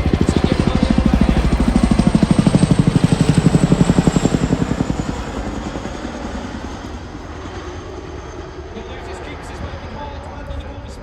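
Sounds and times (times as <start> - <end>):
helicopter rotor blade slap: 0.0 - 10.5.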